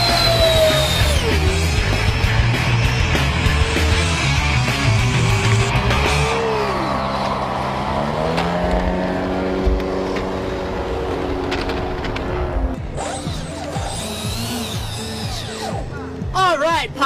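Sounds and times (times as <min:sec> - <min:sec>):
electric ducted fans whining: 0:00.0 - 0:16.3.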